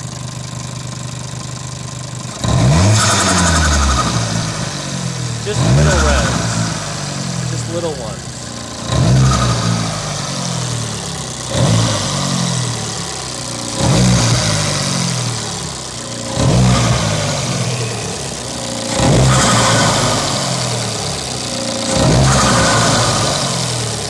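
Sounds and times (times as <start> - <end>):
car engine revving: 2.2 - 24.0.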